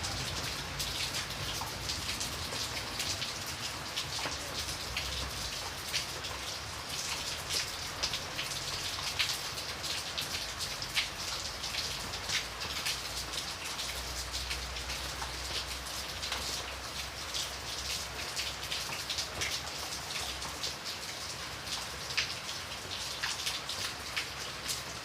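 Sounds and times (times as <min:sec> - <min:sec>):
rain drops ticking: 0:00.0 - 0:25.0
rain hiss: 0:00.0 - 0:25.0.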